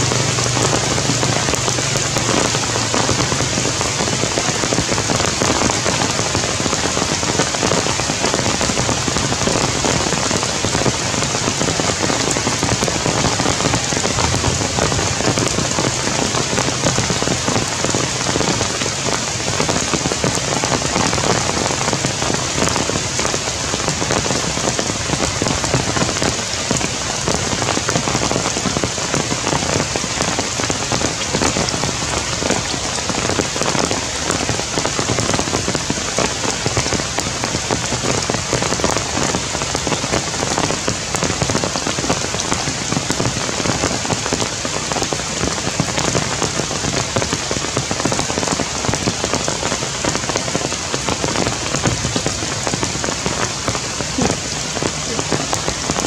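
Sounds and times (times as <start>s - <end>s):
heavy rain on foliage: 0.0s - 56.0s.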